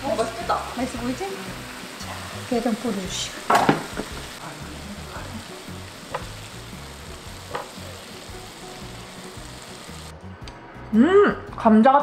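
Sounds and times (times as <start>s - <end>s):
garlic sizzling in a frying pan: 0.0s - 10.2s.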